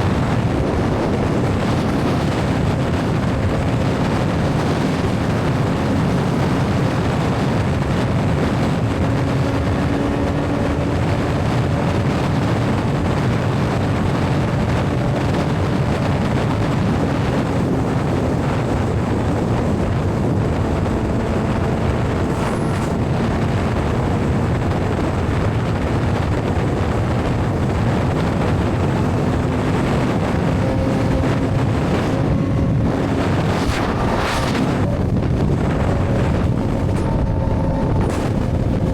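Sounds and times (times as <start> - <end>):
wind rush on microphone: 0.0 - 38.9.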